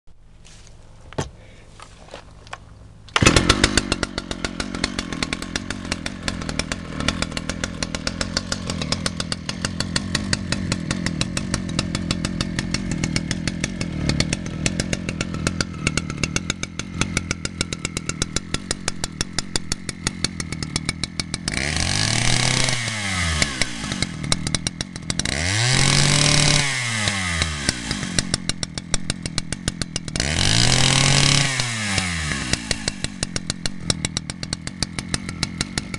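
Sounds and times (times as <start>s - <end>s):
chainsaw idling: 1.2s - 35.9s
chainsaw starting: 1.4s - 35.9s
chainsaw revving: 3.1s - 35.9s.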